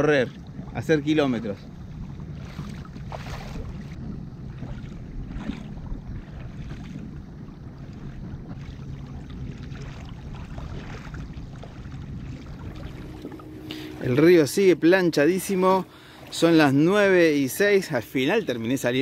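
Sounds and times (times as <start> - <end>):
steady low rumble: 0.0 - 19.0
water rippling against hull: 0.0 - 19.0.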